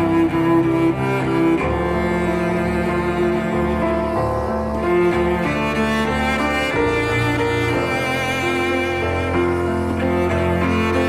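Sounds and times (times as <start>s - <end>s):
cello holding long notes: 0.0s - 11.0s.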